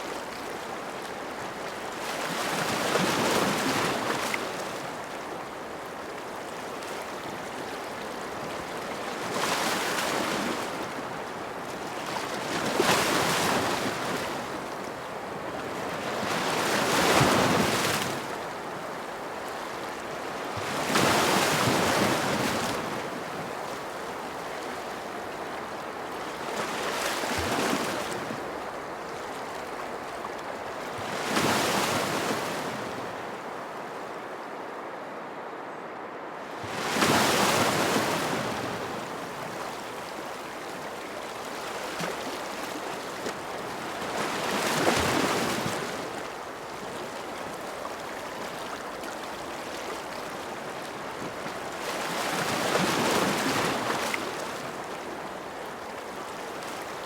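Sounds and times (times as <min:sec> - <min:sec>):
ocean waves washing onto shore: 0:00.0 - 0:57.0.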